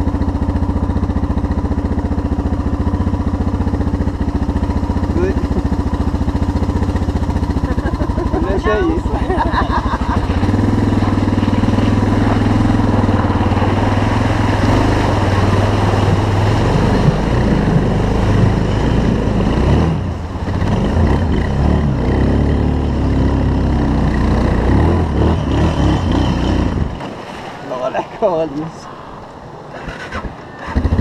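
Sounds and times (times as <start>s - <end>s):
motorcycle engine revving: 0.0s - 27.1s, 29.7s - 31.0s.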